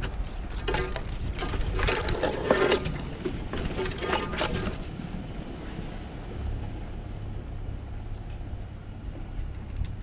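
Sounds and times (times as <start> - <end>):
low rumble of vehicle driving: 0.0 - 10.0.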